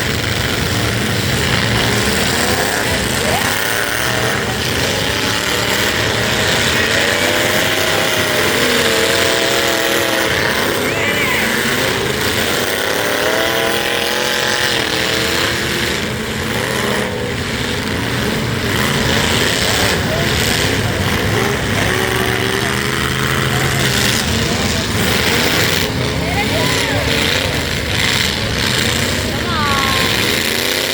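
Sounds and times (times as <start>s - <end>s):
truck engines revving: 0.0s - 30.9s.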